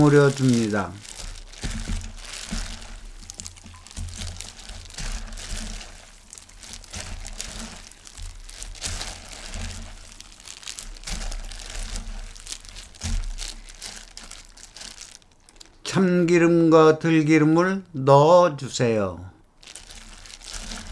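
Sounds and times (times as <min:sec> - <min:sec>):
plastic glove crinkling: 0:00.0 - 0:15.9, 0:19.4 - 0:20.9
wet noodles rustling: 0:00.0 - 0:15.9, 0:19.4 - 0:20.9.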